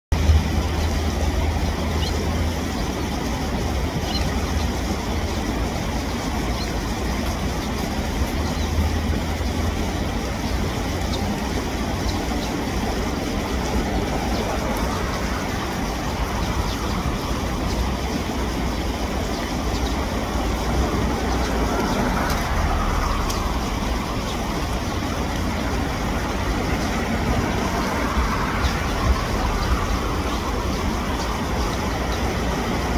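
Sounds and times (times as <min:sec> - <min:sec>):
low road traffic rumble: 0:00.1 - 0:32.9.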